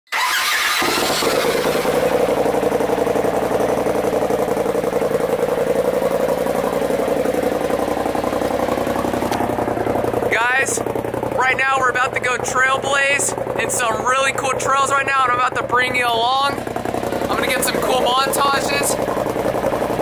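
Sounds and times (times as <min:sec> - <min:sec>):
engine idling with pulsing exhaust: 0:00.2 - 0:20.0.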